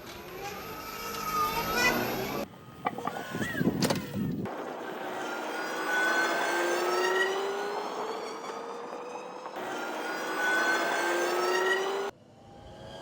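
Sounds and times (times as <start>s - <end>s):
electric motor whine rising: 0.0s - 13.0s.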